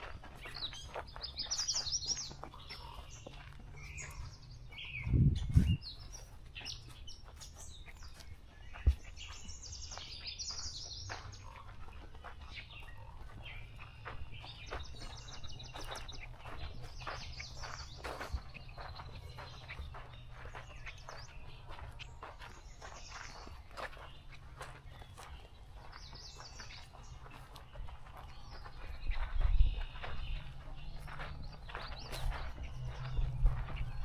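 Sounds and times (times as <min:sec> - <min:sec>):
songbirds singing and chirping: 0:00.0 - 0:34.0.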